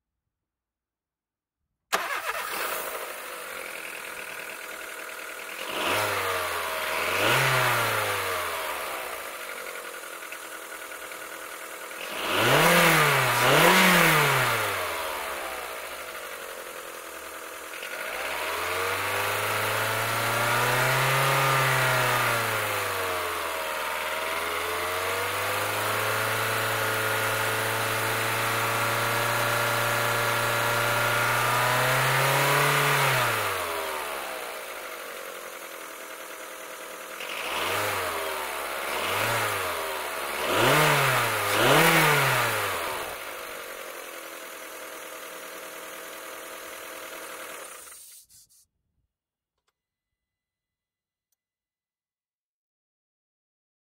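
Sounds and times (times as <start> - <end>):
car engine revving: 1.9 - 48.0.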